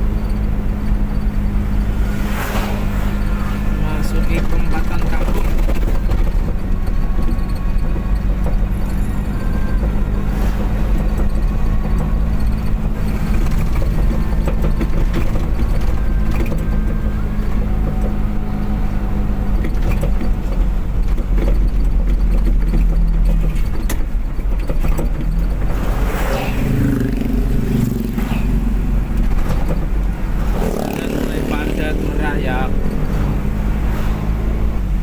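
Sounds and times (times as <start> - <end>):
road rumble: 0.0 - 35.0
vehicle engine running: 0.0 - 35.0.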